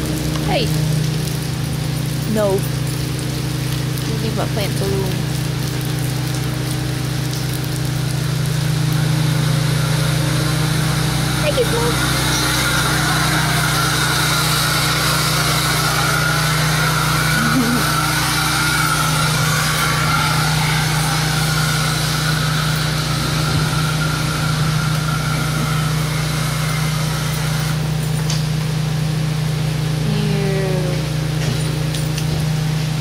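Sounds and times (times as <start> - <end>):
low mechanical hum with hiss: 0.0 - 33.0.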